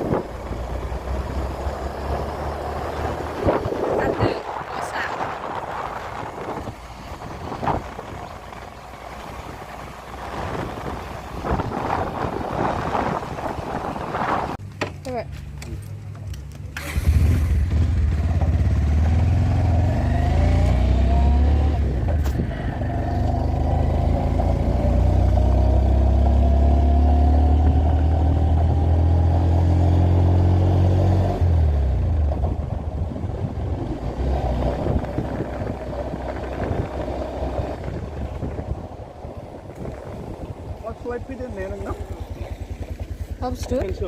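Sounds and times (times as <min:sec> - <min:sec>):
vehicle engine accelerating: 0:00.0 - 0:14.6, 0:16.7 - 0:44.0.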